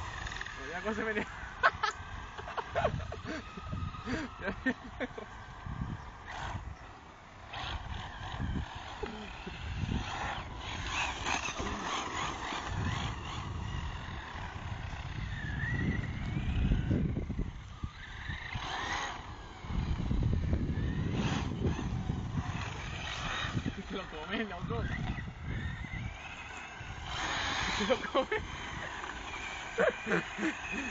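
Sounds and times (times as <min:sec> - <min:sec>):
electric motor whining: 0:00.0 - 0:30.9
tyres rumbling over ground: 0:00.0 - 0:30.9.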